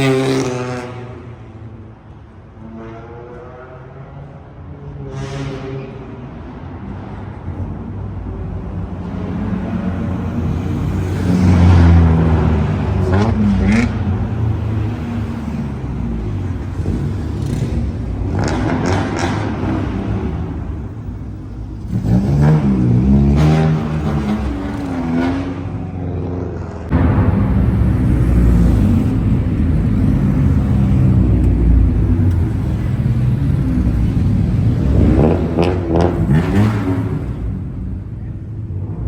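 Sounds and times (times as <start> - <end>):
car engines idling and revving: 0.0 - 39.0.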